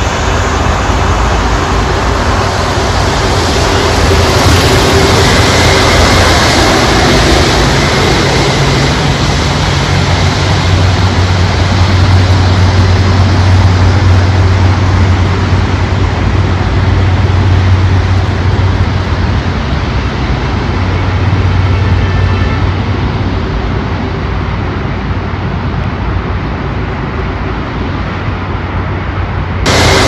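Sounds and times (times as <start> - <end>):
jet engine rushing: 0.0 - 25.2, 29.6 - 30.0.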